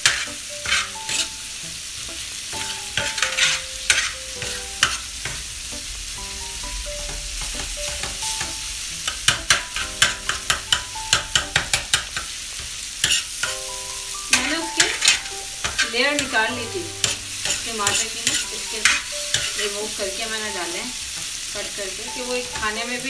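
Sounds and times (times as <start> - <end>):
metal spoon scraping a pan: 0.0 - 1.8, 2.5 - 5.8, 7.0 - 20.8
meat sizzling on a griddle: 0.0 - 23.0.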